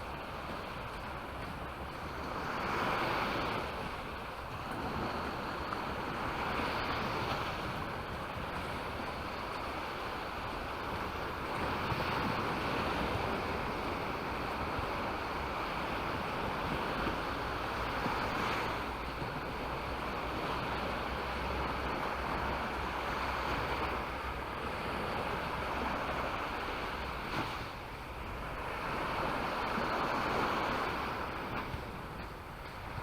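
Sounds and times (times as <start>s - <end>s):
waves breaking on beach: 0.0s - 33.0s
wind rumble on microphone: 0.0s - 33.0s.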